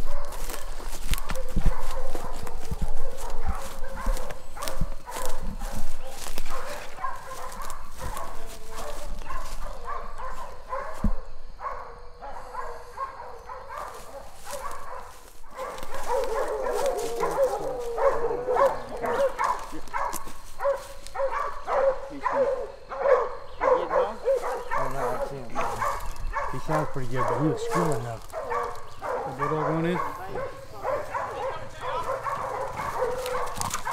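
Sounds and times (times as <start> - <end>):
dogs barking: 0.0 - 33.9.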